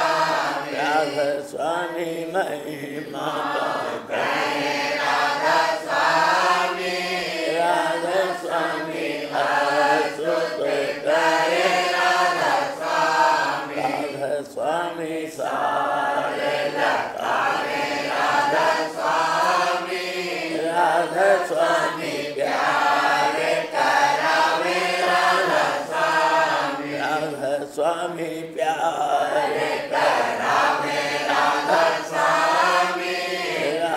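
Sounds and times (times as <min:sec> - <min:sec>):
voices chanting devotional song: 0:00.0 - 0:33.9.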